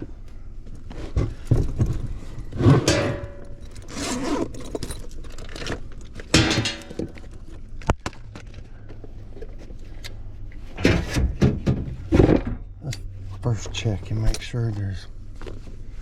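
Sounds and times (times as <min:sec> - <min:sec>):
faint low hum: 0:00.0 - 0:16.0
scraping and rustling handling: 0:00.6 - 0:16.0.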